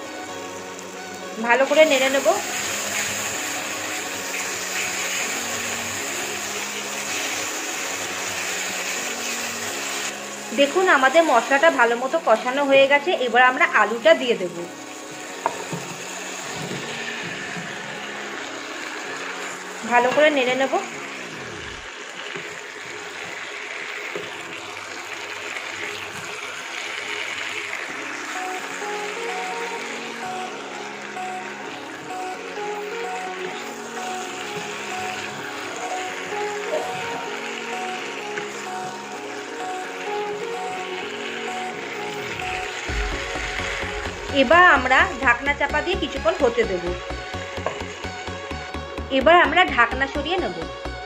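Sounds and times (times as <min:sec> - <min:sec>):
masala sizzling in a pan: 0:00.0 - 0:48.8.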